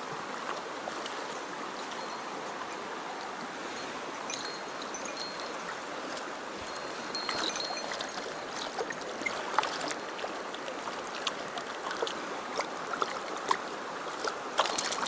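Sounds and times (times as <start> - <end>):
stream rushing: 0.0 - 15.0.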